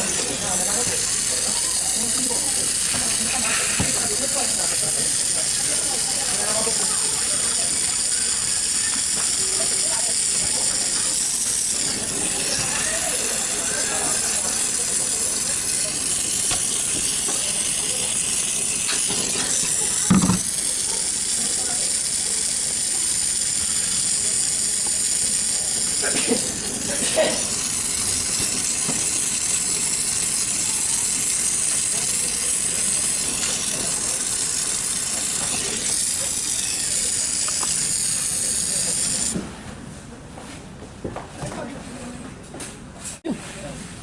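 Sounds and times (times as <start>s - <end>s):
gas hissing: 0.0s - 39.4s.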